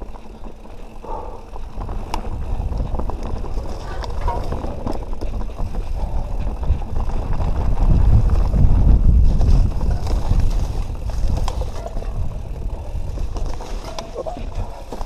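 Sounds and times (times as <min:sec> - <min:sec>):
bike knocks and rattles: 0:00.0 - 0:15.0
tyre and wind rumble: 0:00.0 - 0:15.0.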